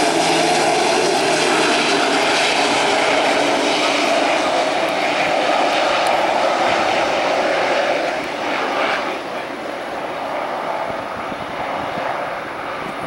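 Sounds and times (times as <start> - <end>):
turboprop engines running: 0.0 - 13.0.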